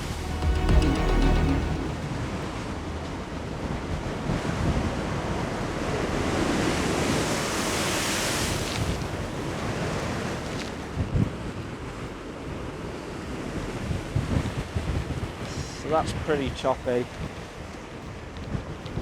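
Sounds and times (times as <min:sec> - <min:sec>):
waves surging against sea wall: 0:02.0 - 0:19.0
wind rumbling on microphone: 0:02.0 - 0:19.0.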